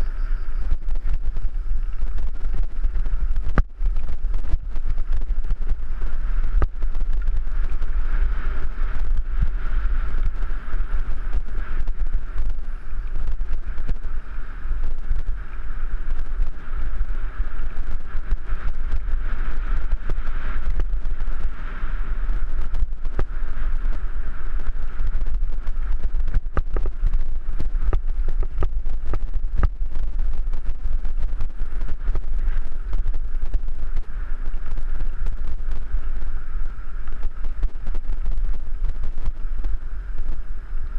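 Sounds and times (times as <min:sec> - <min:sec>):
tyres on loose gravel: 0:00.0 - 0:40.9
wind buffeting camera: 0:00.0 - 0:40.9.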